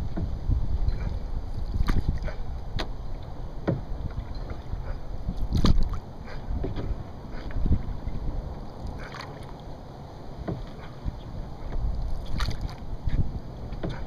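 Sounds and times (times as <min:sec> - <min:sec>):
paddle splashes and hull knocks: 0:00.0 - 0:09.7, 0:10.3 - 0:14.0.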